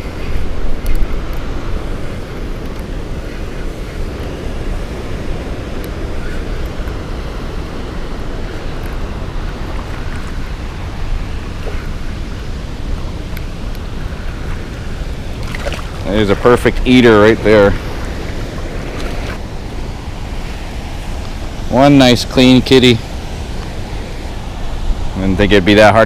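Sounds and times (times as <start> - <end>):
rushing spillway water: 0.0 - 26.0
wind on microphone: 0.0 - 26.0.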